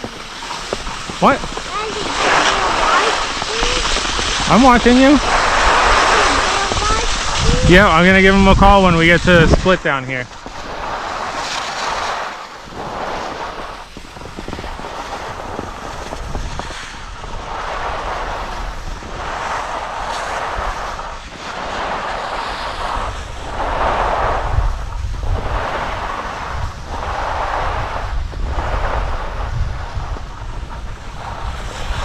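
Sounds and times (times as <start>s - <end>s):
skis scraping over snow: 0.0s - 32.0s
wind rumbling on microphone: 0.0s - 32.0s.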